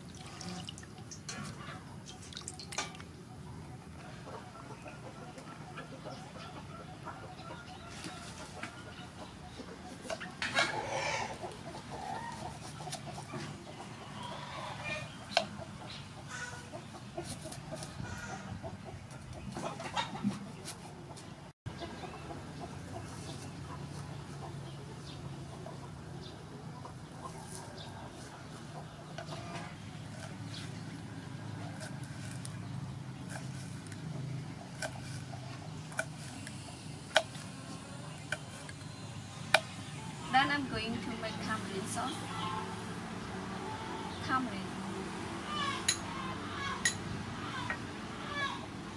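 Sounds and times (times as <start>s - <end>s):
chickens clucking: 0.3s - 44.4s.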